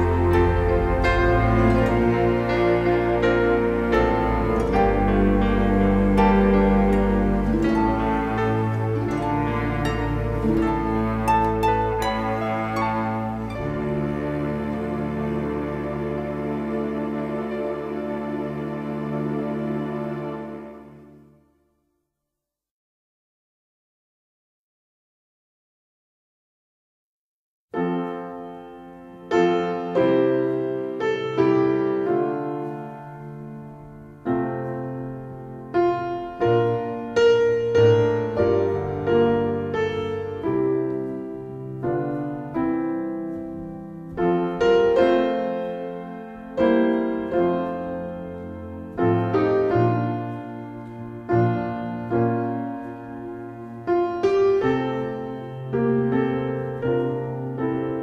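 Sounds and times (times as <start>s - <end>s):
slow solo piano: 0.0s - 21.3s, 27.7s - 58.0s.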